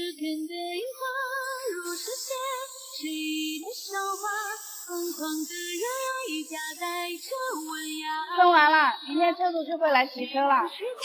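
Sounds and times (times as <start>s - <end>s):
high voice singing with vibrato: 0.0s - 9.4s.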